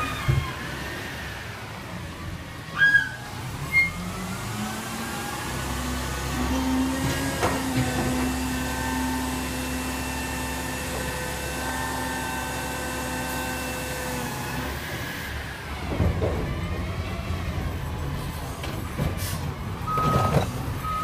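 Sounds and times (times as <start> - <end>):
garbage truck humming: 0.0 - 21.0.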